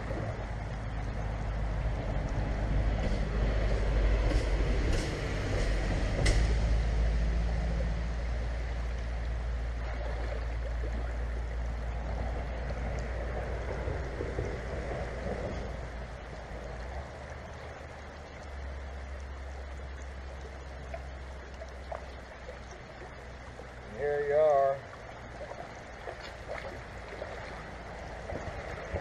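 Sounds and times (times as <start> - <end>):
low rumble: 0.0 - 24.2
river running over rocks: 0.0 - 29.0.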